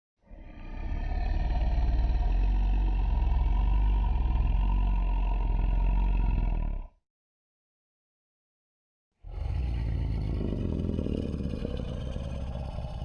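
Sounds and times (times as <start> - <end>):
deep monster rumble: 0.3 - 7.0, 9.2 - 13.0.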